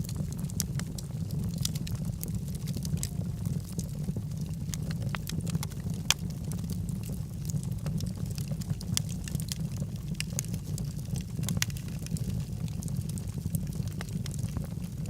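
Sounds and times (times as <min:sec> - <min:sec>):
fire rumbling in fireplace: 0:00.0 - 0:15.0
logs crackling and popping: 0:00.0 - 0:15.0.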